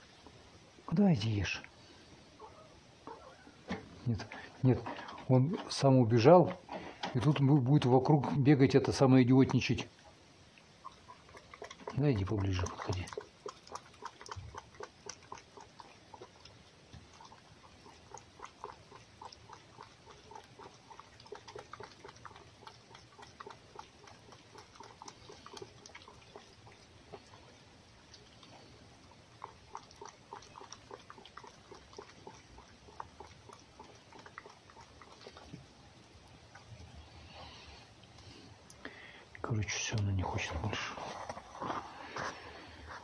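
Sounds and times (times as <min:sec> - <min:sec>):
small animal chewing: 0:01.6 - 0:43.0.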